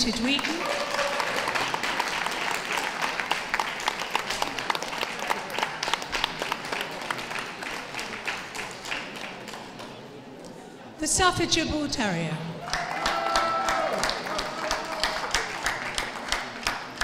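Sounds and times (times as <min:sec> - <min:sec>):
crowd applauding: 0:00.0 - 0:10.0, 0:12.6 - 0:17.0.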